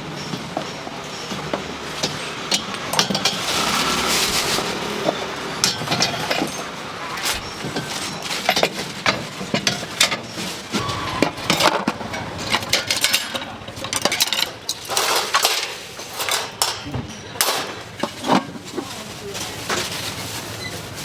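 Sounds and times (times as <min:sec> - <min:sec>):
kitchen utensils clattering: 0:00.0 - 0:21.0.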